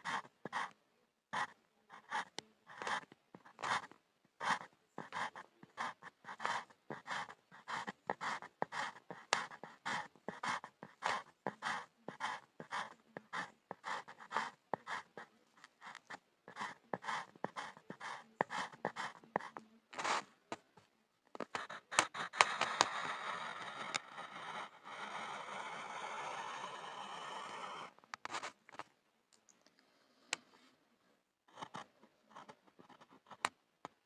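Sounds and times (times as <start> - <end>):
pencil scratching on board: 0.0 - 0.8, 1.4 - 20.6, 21.4 - 28.6, 31.5 - 33.6.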